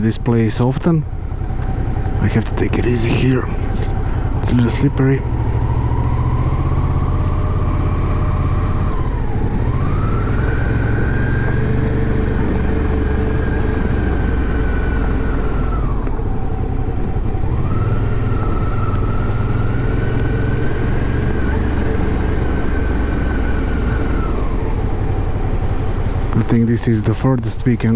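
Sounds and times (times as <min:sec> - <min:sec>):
motorcycle engine rumbling: 0:00.0 - 0:27.9.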